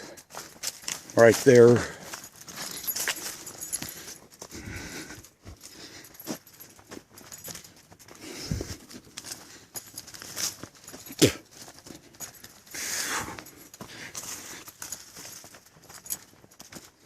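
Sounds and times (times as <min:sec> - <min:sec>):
footsteps on dirt trail: 0:00.0 - 0:17.0.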